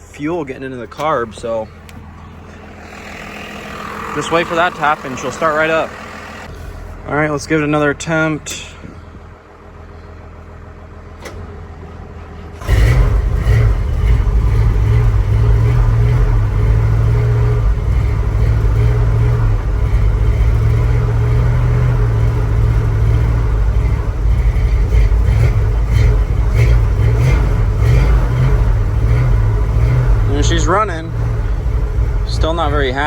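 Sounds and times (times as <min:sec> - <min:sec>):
truck engine starting and running: 0:00.0 - 0:33.0.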